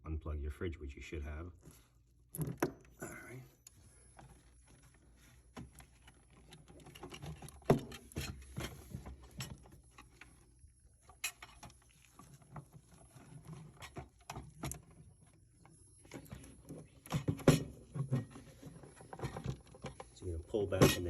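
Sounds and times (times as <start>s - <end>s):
plastic cover clicking and scraping: 4.1s - 21.0s.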